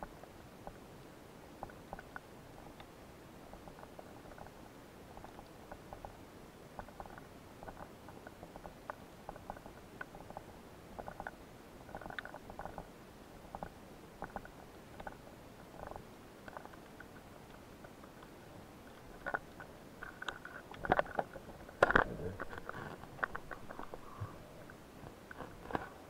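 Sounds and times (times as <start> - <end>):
underwater clicks and crackles: 0.0 - 0.8, 1.6 - 2.9, 3.5 - 12.9, 13.5 - 26.0.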